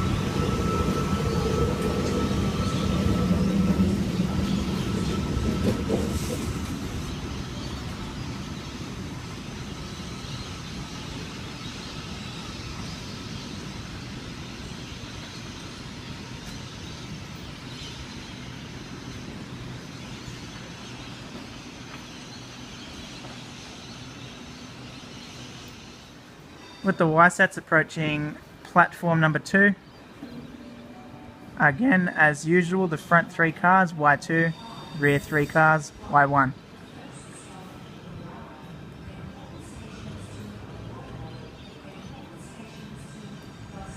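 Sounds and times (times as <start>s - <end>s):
train rumbling past: 0.0s - 43.9s.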